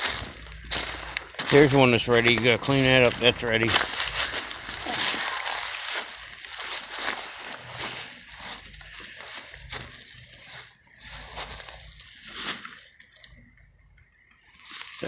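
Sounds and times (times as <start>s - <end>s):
rustling and crinkling: 0.0s - 13.6s, 14.4s - 15.0s.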